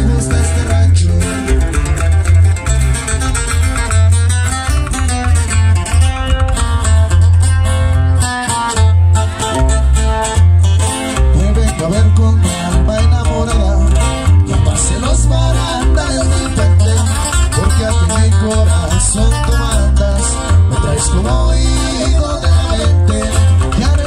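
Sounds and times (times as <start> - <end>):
heavy pulsing bass line: 0.0 - 24.0
plucked guitar melody: 0.0 - 24.0.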